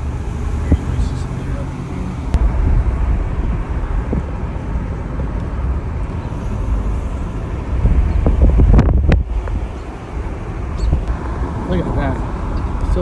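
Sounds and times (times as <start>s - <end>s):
car driving rumble inside cabin: 0.0s - 13.0s.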